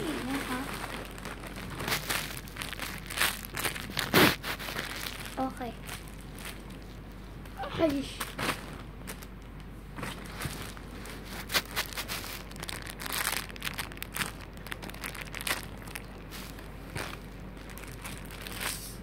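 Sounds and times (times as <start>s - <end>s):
plastic bag crinkling: 0.0s - 7.0s, 7.8s - 19.0s.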